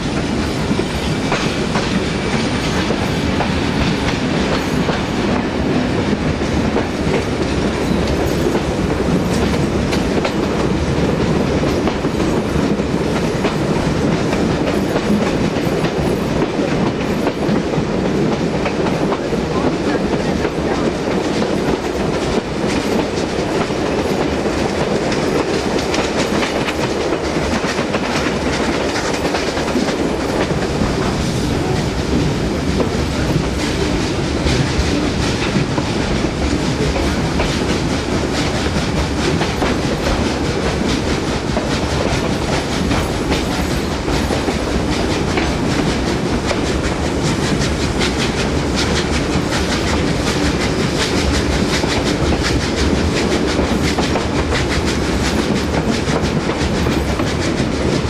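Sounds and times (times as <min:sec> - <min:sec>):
steam locomotive working: 0:00.0 - 0:58.0
train wheels rumbling: 0:00.0 - 0:58.0.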